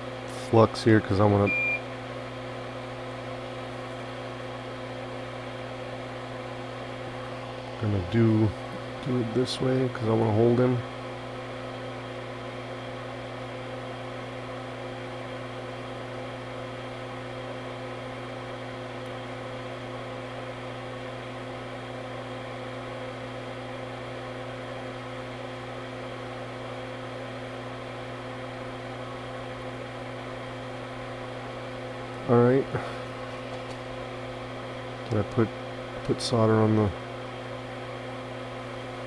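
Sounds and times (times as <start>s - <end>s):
electrical hum and whir: 0.0s - 39.0s.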